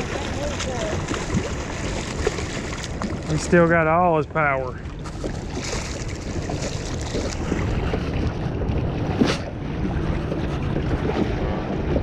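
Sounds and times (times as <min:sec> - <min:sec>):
water washing against boat hull: 0:00.0 - 0:12.0
wind buffeting microphone: 0:00.0 - 0:12.0.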